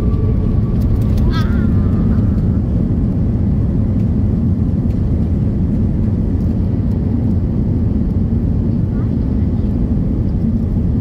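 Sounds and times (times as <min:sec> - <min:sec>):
loud low rumble inside airliner cabin: 0:00.0 - 0:11.0.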